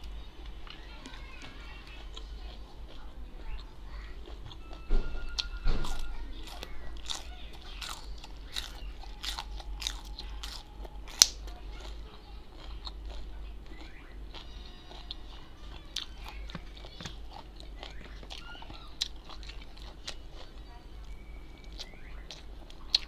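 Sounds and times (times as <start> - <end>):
wet chewing: 0.0 - 23.0.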